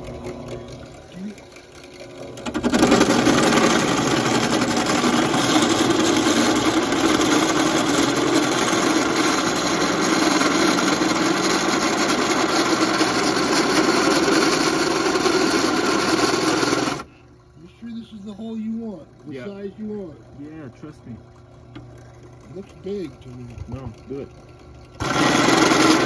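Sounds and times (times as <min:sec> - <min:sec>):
drill press boring metal: 0:00.0 - 0:17.1, 0:20.8 - 0:26.0.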